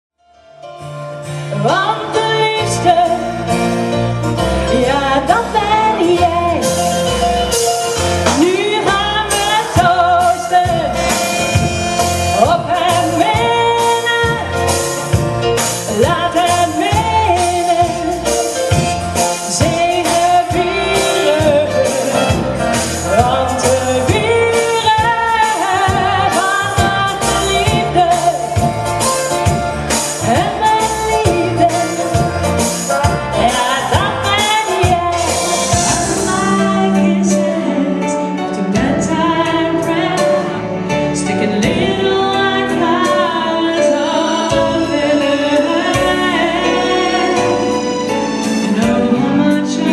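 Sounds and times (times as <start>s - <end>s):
pop song with vocals: 1.2s - 49.9s.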